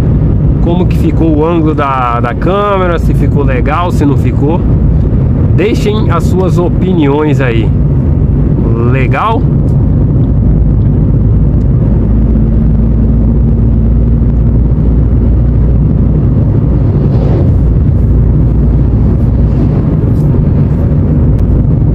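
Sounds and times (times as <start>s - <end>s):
car cabin road and engine noise: 0.0s - 21.9s.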